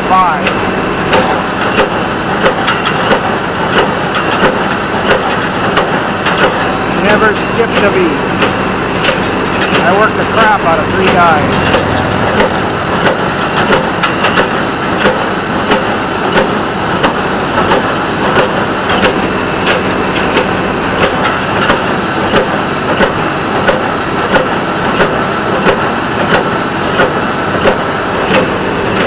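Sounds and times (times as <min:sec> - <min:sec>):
tractor engine drone: 0:00.0 - 0:29.0.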